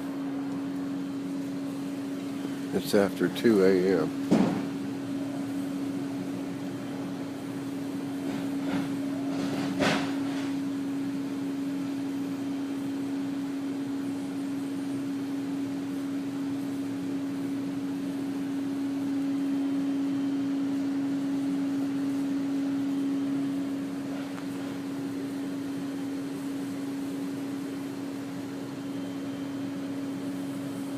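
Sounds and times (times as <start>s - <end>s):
low mechanical hum: 0.0s - 30.9s.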